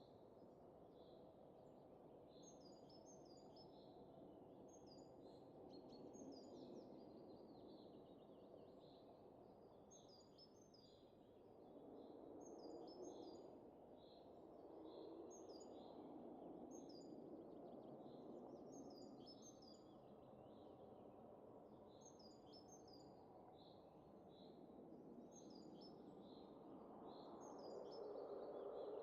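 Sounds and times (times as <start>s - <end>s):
faint low wind: 0.0s - 29.0s.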